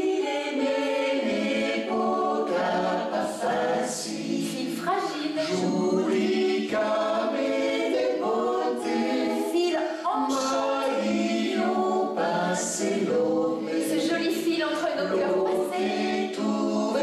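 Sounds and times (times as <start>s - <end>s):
a cappella group singing harmony: 0.0s - 17.0s.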